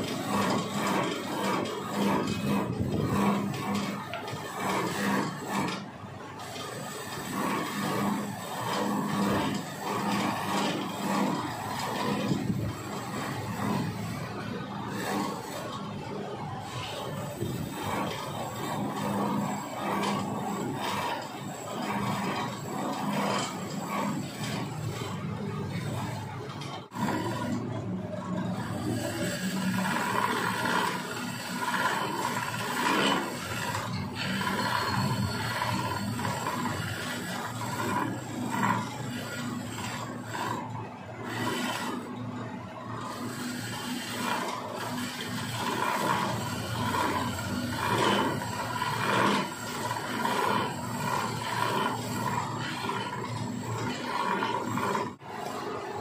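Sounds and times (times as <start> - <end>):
lathe tool scraping spinning wood: 0.0 - 56.0.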